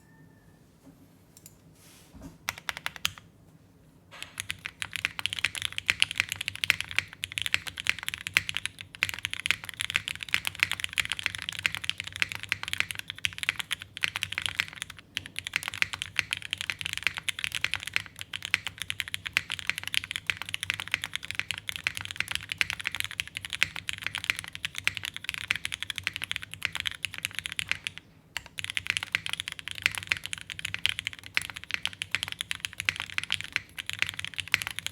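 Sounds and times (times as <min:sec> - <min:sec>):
fast mechanical keyboard typing: 0:02.5 - 0:03.2, 0:04.2 - 0:34.9.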